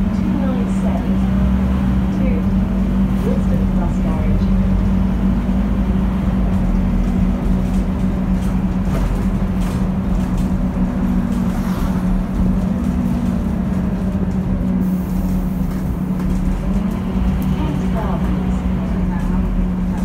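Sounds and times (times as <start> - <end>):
bus engine rumbling: 0.0 - 20.0.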